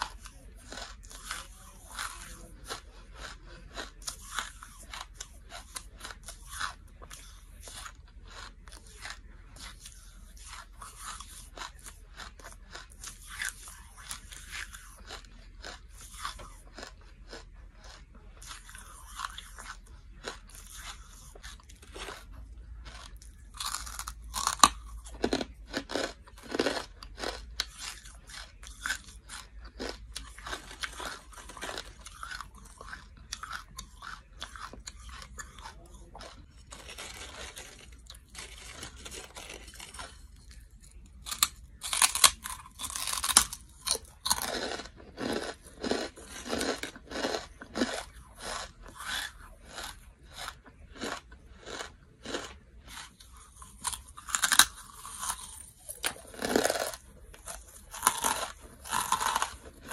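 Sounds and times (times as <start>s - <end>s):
charcoal crunching in mouth: 0.0s - 59.9s.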